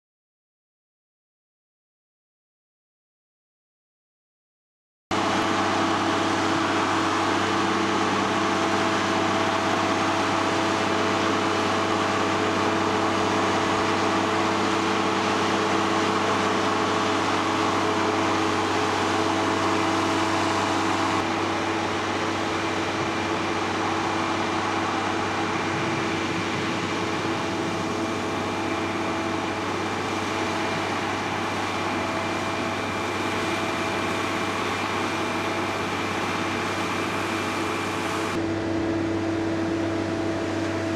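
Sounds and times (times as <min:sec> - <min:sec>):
diesel engine running: 0:05.1 - 0:40.9.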